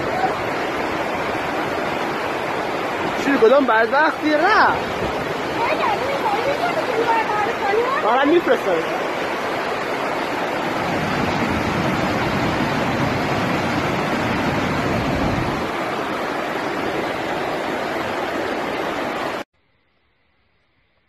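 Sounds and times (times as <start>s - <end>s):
floodwater rushing: 0.0s - 19.5s.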